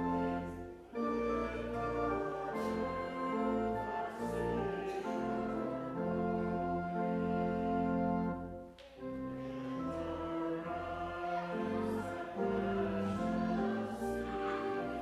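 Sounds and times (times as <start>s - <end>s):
congregation singing a hymn: 0.0s - 15.0s
organ playing sustained chords: 0.0s - 15.0s.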